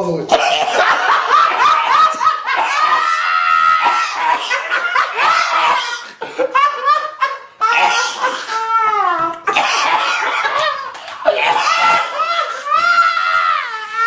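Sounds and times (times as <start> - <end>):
high-pitched laughter: 0.4 - 14.0.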